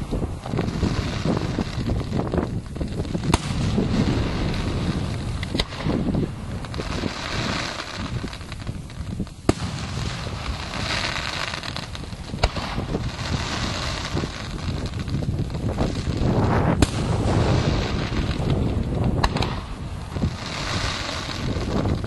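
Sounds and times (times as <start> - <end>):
crackling fireworks hiss: 0.0 - 22.0
firework bangs: 0.0 - 22.0
rumble of bursting shells: 0.0 - 22.0.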